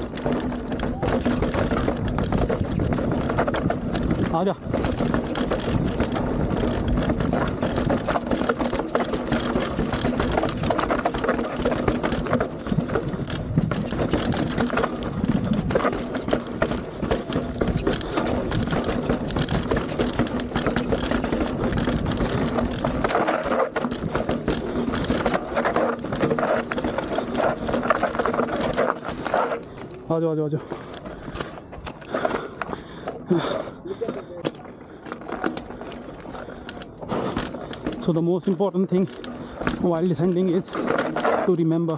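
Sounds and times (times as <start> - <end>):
bike rattling over stones: 0.0 - 41.9.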